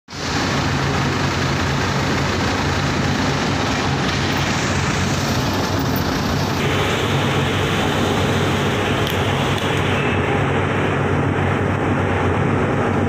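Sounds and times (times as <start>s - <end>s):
wheel loader diesel engine running: 0.1s - 13.0s.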